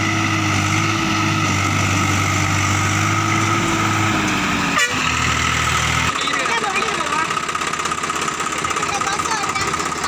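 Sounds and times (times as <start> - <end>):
tractor diesel engine under load: 0.0 - 10.0.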